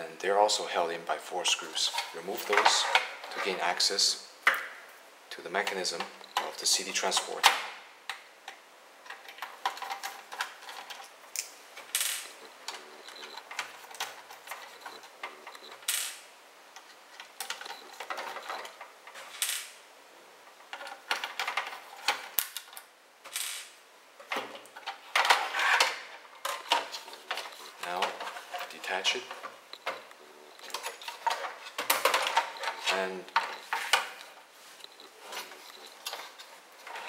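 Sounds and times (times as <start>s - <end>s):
plastic handling noise: 1.5s - 4.8s, 5.5s - 19.7s, 20.4s - 37.0s.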